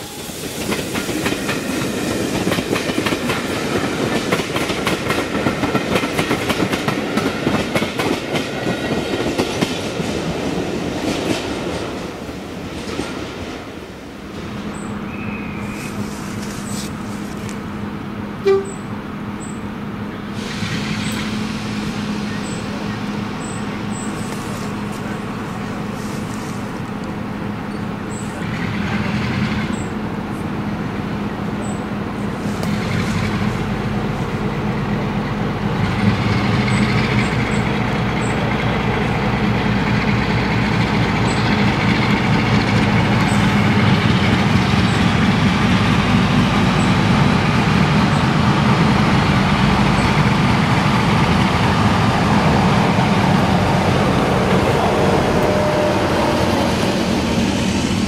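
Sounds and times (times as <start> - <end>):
locomotive humming: 0.0 - 58.0.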